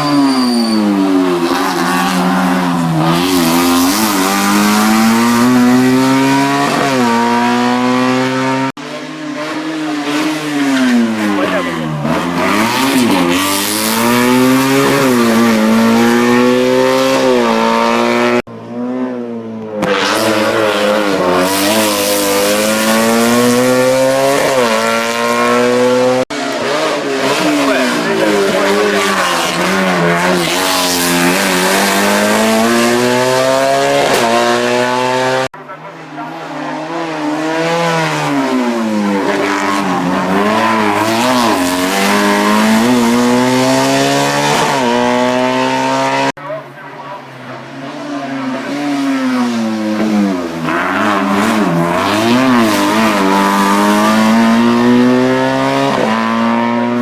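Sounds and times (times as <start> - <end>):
race car engine accelerating hard: 1.3 - 46.4, 47.8 - 57.0.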